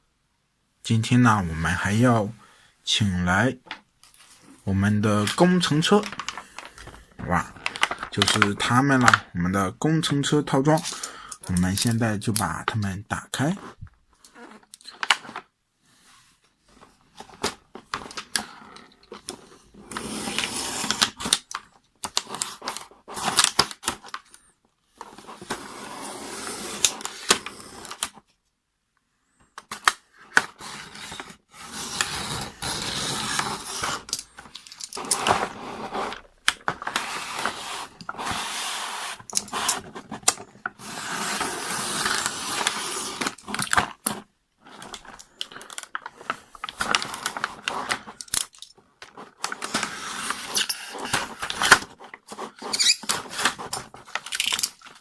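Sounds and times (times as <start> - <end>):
plastic and cardboard rustling: 3.6 - 9.3, 13.4 - 28.4, 29.6 - 55.0.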